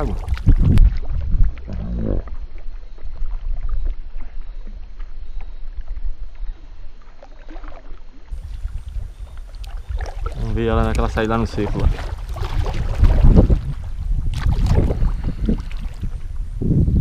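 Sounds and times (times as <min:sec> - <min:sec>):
wind rumble on microphone: 0:00.0 - 0:07.0, 0:08.3 - 0:17.0
water noise: 0:00.0 - 0:17.0.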